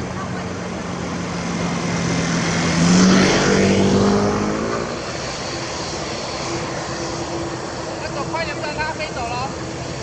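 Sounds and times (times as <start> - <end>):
turboprop airliner propeller drone: 0.0 - 10.0.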